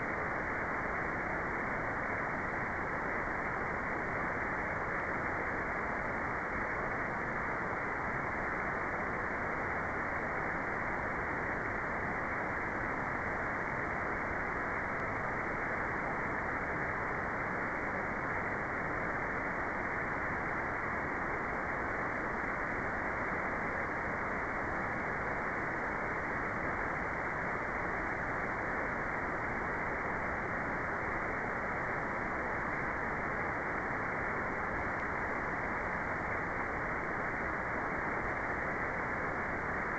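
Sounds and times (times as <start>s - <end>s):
muffled white noise hiss: 0.0s - 39.9s.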